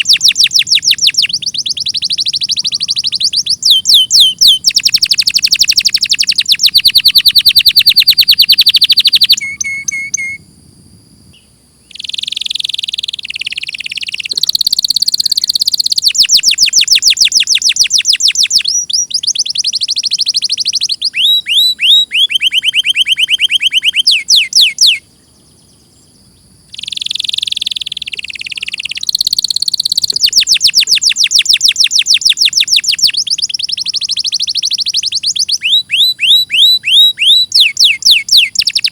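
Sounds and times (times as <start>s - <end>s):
canary singing trills: 0.0s - 10.6s, 11.3s - 38.9s.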